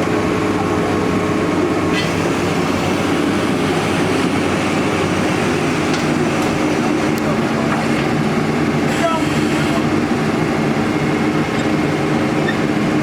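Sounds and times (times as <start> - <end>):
heavy diesel engine under load: 0.0 - 13.0.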